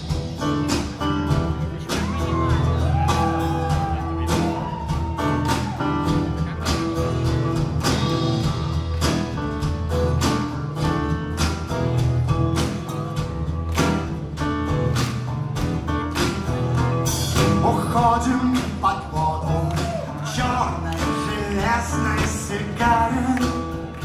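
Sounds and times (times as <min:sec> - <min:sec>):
live band playing: 0:00.0 - 0:24.0
steady drum beat: 0:00.0 - 0:24.0
strummed acoustic guitar: 0:00.0 - 0:24.0.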